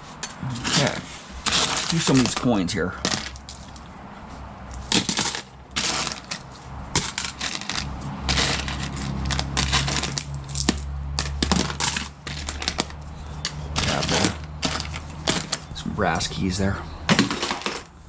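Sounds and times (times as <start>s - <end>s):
coins and scrap metal clinking: 0.0s - 3.9s, 4.7s - 16.5s, 17.1s - 18.0s.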